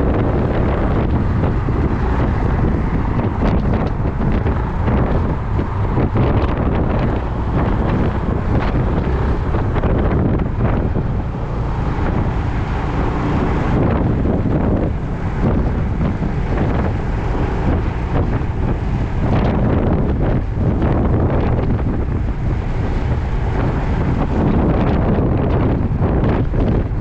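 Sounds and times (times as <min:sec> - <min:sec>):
scooter engine running: 0:00.0 - 0:27.0
wind buffeting microphone: 0:00.0 - 0:27.0.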